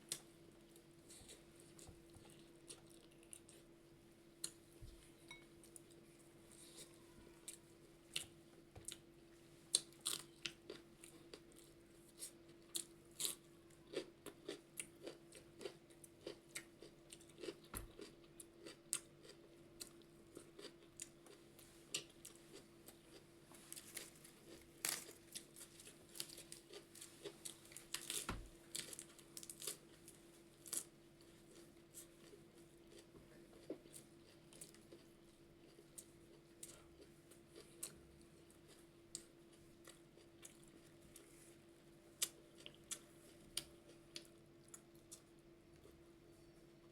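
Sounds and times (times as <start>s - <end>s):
faint steady hum: 0.0s - 46.9s
person chewing food: 0.1s - 3.7s, 9.7s - 46.0s.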